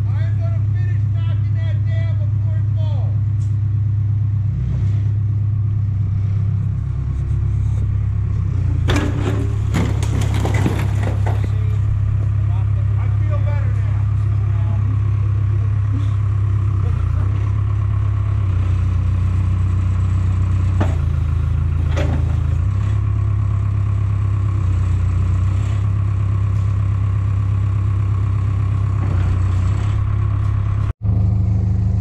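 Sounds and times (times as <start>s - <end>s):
heavy equipment engine running: 0.0s - 32.0s.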